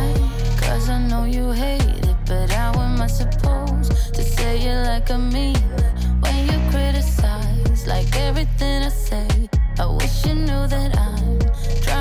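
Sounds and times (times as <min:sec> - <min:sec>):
song with deep bass and beat: 0:00.0 - 0:12.0.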